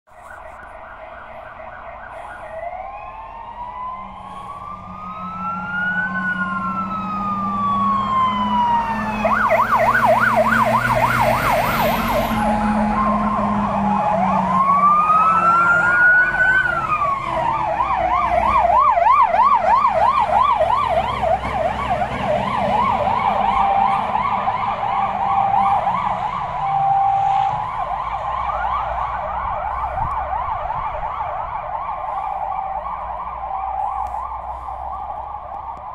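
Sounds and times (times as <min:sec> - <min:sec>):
fire engine siren: 0:00.1 - 0:35.9
heavy truck passing: 0:00.1 - 0:35.9.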